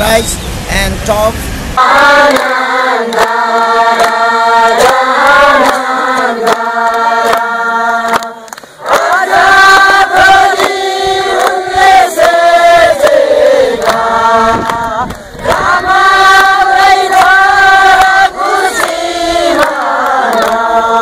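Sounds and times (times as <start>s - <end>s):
choir singing: 1.8s - 21.0s.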